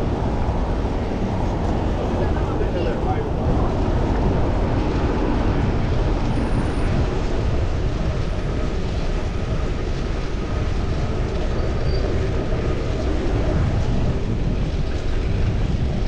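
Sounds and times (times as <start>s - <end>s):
road and traffic noise: 0.0s - 16.0s
wind rushing on microphone: 0.0s - 16.0s.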